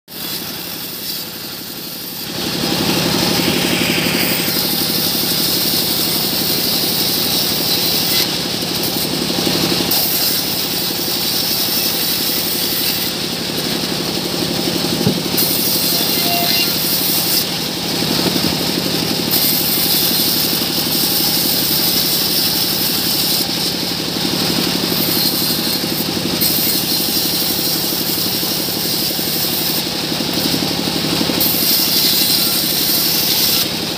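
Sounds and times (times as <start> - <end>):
saw blade cutting wood: 0.1 - 33.9
sawmill machine hum: 0.1 - 33.9.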